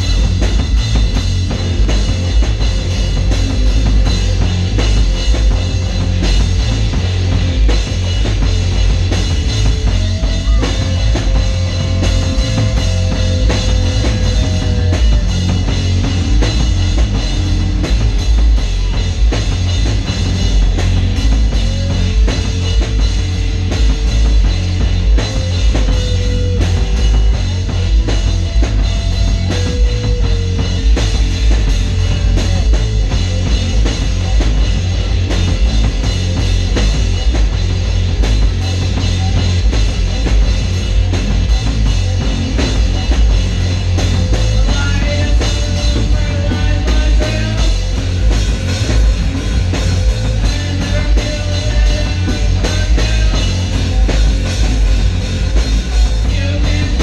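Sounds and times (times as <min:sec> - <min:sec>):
guitar bending long notes: 0:00.0 - 0:57.0
rock band playing: 0:00.0 - 0:57.0.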